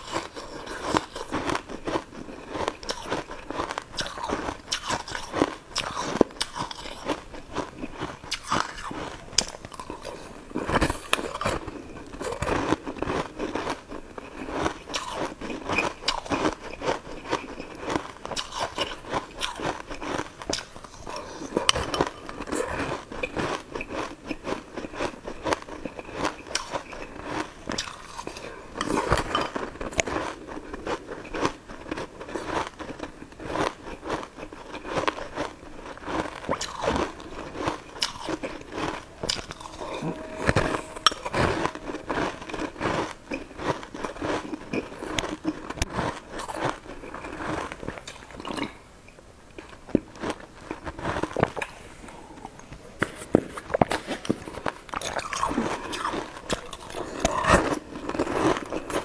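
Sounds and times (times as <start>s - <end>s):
crunching and chewing candy: 0.0s - 48.8s, 49.4s - 59.0s.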